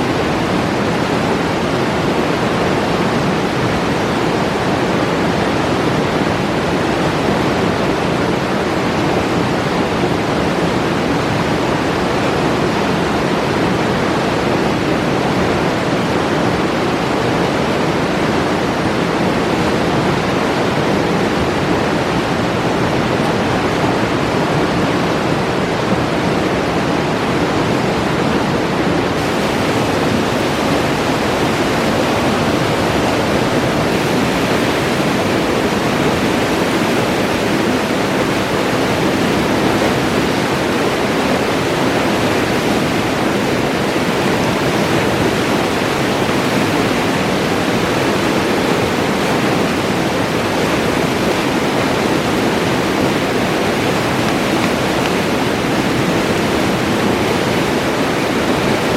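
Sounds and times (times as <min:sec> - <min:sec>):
river rushing: 0:00.0 - 0:58.9.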